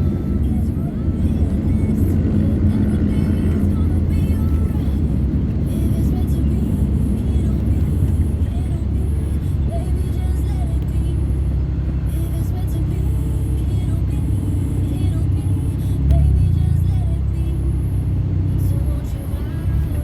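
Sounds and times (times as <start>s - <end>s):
vehicle rumble from on board: 0.0s - 20.0s.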